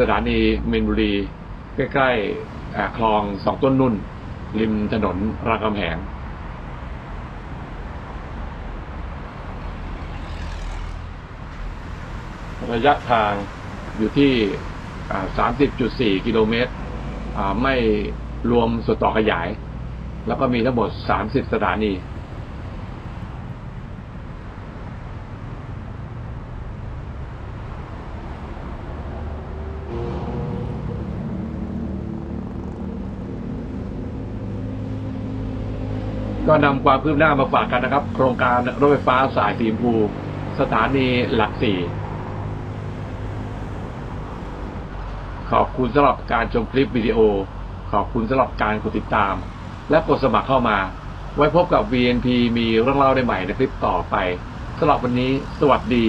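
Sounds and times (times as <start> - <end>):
heavy vehicle engine hum: 0.0 - 56.0
road traffic rumble: 0.0 - 56.0.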